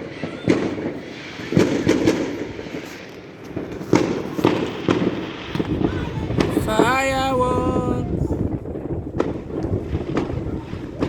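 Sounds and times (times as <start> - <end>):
distant fireworks rumble: 0.0 - 11.0
fireworks bangs and crackles: 0.0 - 11.0.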